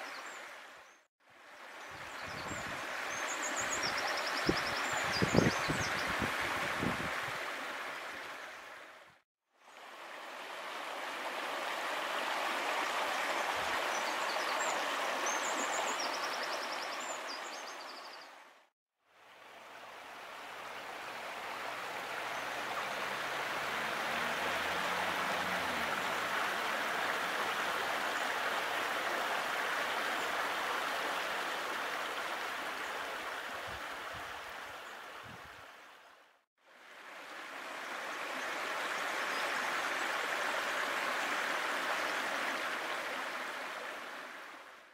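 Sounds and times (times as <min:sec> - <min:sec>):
stream rushing: 0:00.0 - 0:44.9.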